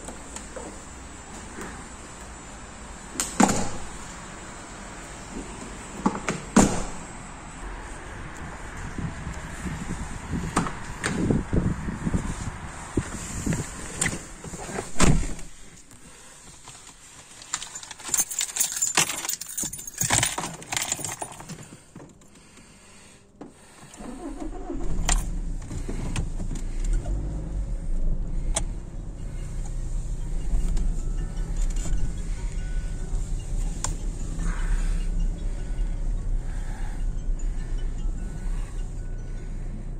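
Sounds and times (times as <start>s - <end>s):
low engine rumble: 0.0s - 16.3s, 22.4s - 39.9s.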